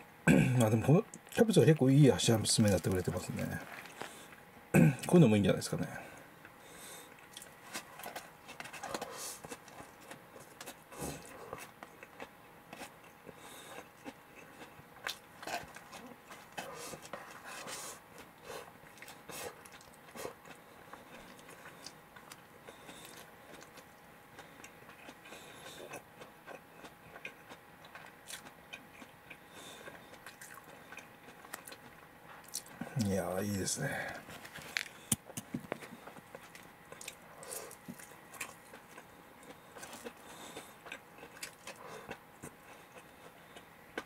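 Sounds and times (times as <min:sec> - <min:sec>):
person chewing crunchy food: 0:06.5 - 0:33.2, 0:34.1 - 0:44.0.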